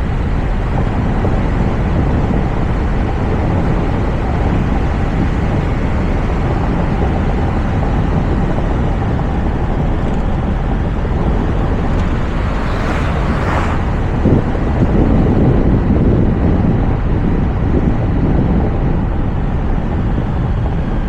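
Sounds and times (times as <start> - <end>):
wind and tyre noise: 0.0 - 21.0.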